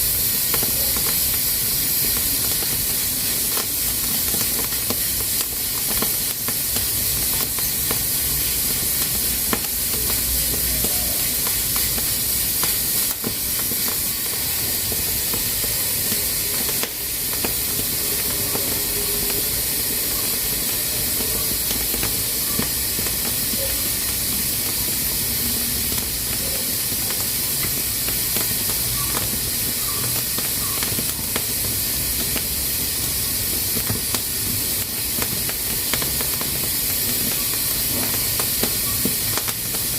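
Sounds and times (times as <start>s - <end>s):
pressure cooker steam hissing: 0.0s - 39.9s.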